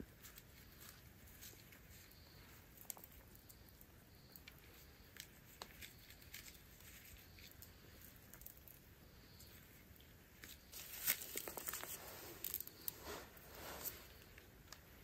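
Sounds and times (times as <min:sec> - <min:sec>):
corn kernels clicking and crackling: 0:00.0 - 0:13.0.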